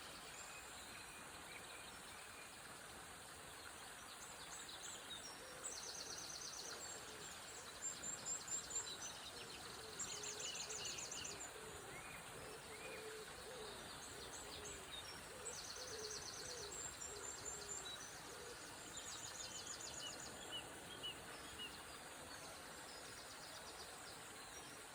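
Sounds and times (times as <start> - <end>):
songbirds trilling and chirping: 0.0 - 24.9.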